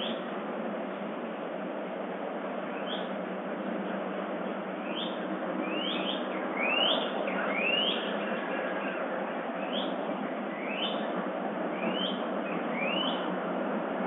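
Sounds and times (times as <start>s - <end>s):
steady hiss: 0.0s - 14.0s
songbirds chirping: 2.5s - 13.9s.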